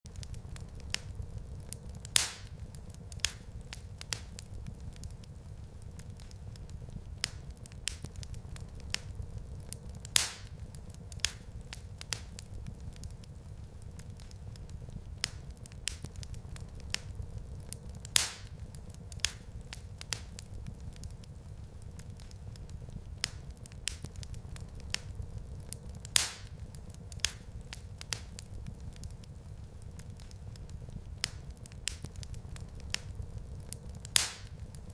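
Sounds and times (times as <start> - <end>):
wood fire crackling in fireplace: 0.0 - 34.9
loud single fire pops: 0.1 - 34.9.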